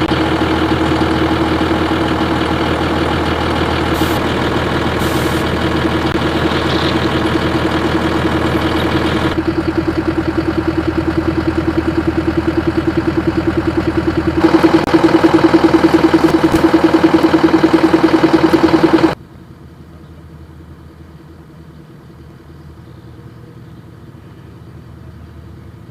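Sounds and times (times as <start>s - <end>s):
large engine running: 0.0s - 25.9s.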